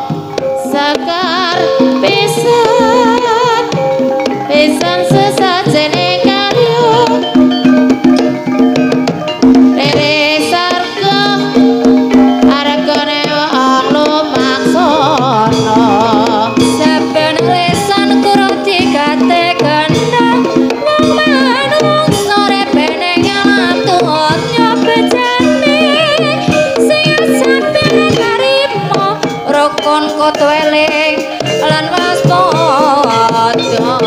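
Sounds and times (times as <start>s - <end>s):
hand drums in busy rhythm: 0.0s - 34.0s
steady held notes: 0.0s - 34.0s
wavering melody with vibrato: 0.0s - 34.0s.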